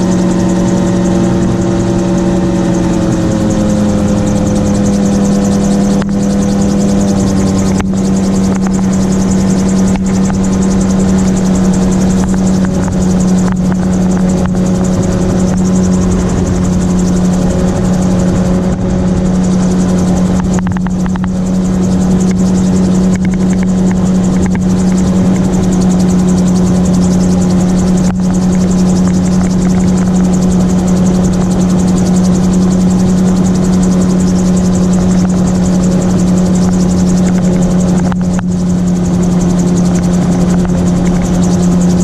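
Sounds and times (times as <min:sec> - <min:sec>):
gyrocopter engine and propeller: 0:00.0 - 0:42.0.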